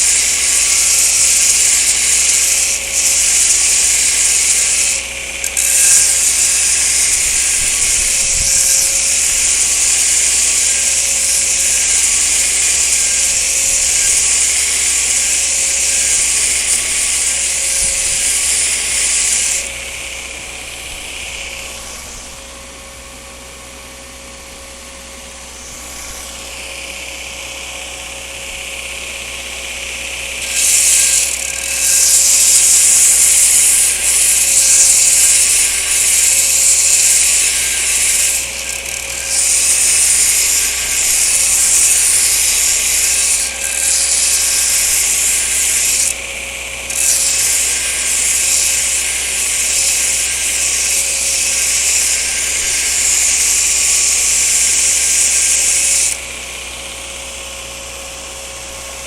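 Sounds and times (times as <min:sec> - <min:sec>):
belt grinder grinding steel blade: 0:00.0 - 0:22.9, 0:25.5 - 0:59.0.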